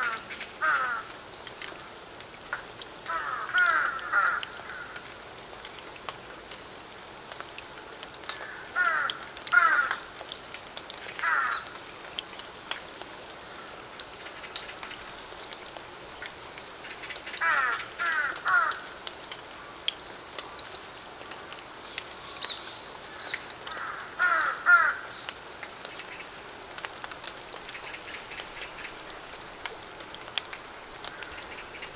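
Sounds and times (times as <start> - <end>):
rain falling on puddle: 0.0 - 31.9
water drips: 0.0 - 31.9.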